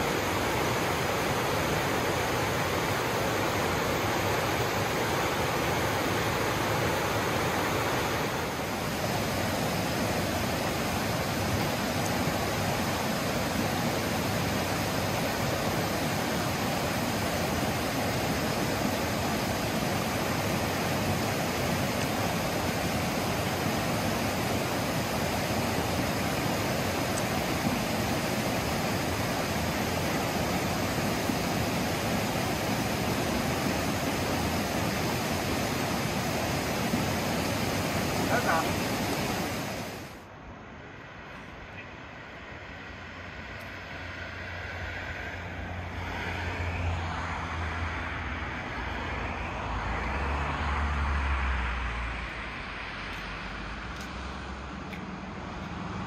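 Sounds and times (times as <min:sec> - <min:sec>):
water rushing: 0:00.0 - 0:40.3, 0:42.0 - 0:56.0.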